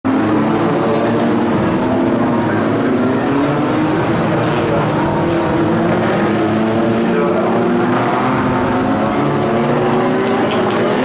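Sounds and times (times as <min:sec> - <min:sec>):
race car engines at speed: 0:00.0 - 0:11.0.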